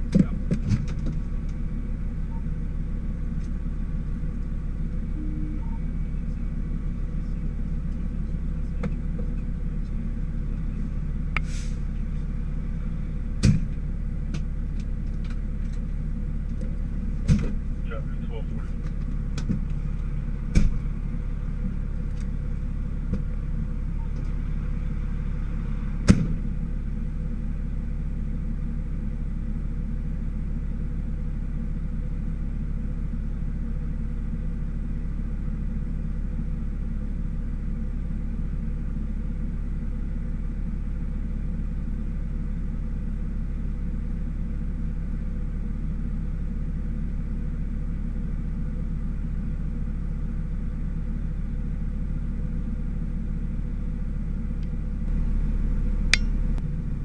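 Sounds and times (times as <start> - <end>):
diesel engine rumbling: 0.0 - 57.0.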